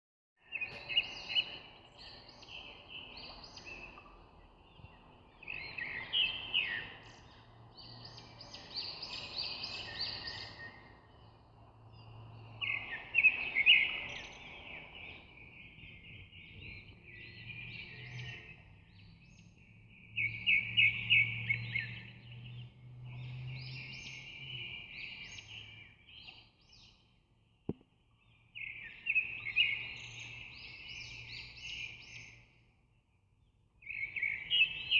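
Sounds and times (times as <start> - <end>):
birds chirping and trilling: 0.4 - 34.9.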